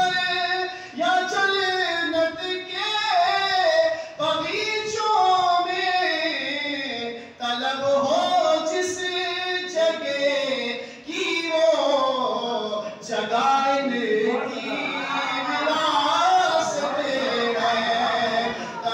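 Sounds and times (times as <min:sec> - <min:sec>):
man singing into a microphone: 0:00.0 - 0:18.9.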